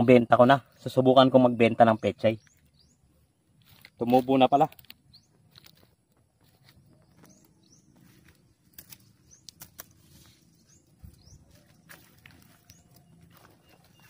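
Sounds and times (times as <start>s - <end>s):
small birds chirping: 0.0s - 14.0s
twigs crackling underfoot: 2.2s - 14.0s.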